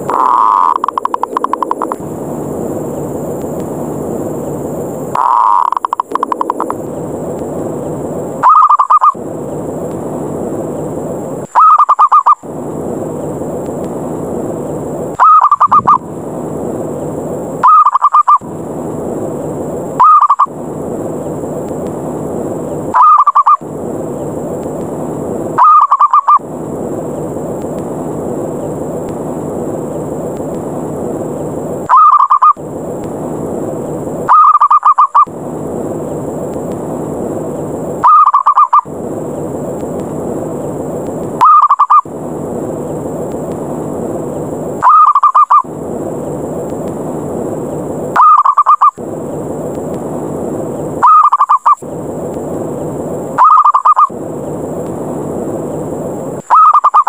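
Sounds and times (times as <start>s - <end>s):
steady rushing background noise: 0.0s - 57.0s.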